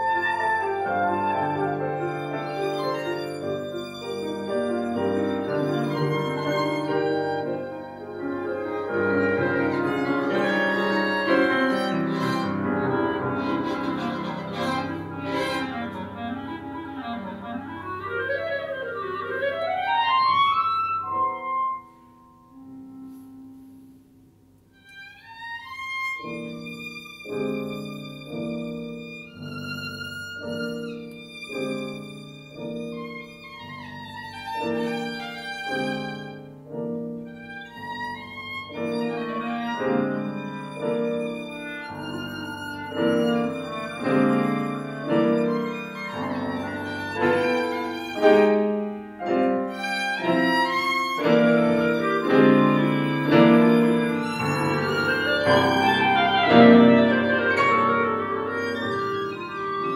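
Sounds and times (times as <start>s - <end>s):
clarinet: 0.0s - 28.3s, 37.3s - 59.9s
piano: 0.0s - 59.9s
violin: 0.0s - 59.9s.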